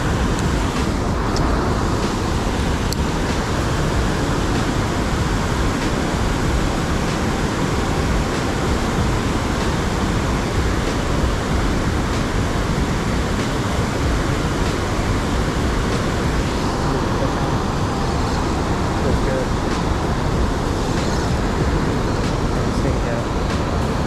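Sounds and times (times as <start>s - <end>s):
fast-flowing river water: 0.0s - 24.0s.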